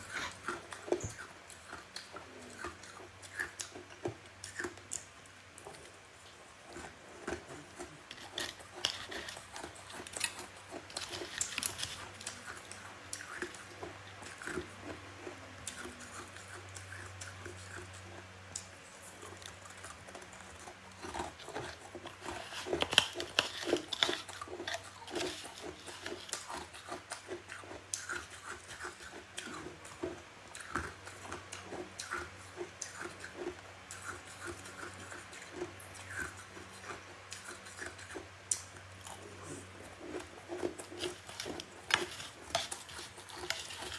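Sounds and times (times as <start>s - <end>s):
chewing crunchy frost: 0.0s - 43.9s.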